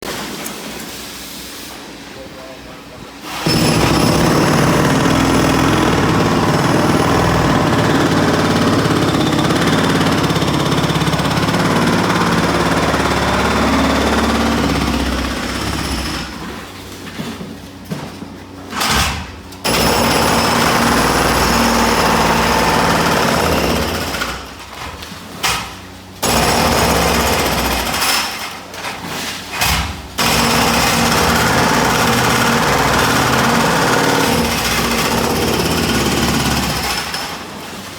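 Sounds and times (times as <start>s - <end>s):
demolition hammer breaking wall: 3.4s - 16.7s, 18.7s - 37.7s.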